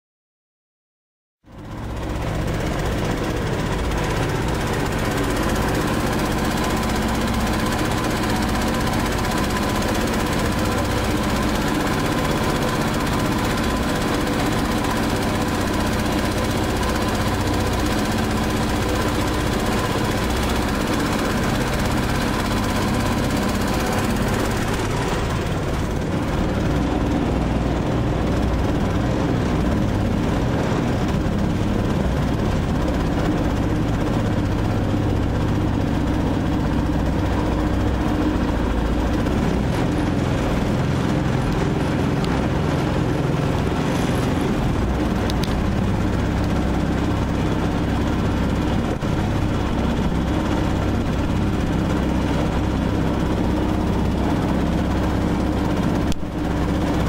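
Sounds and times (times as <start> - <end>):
boat motor running: 1.5 - 57.0.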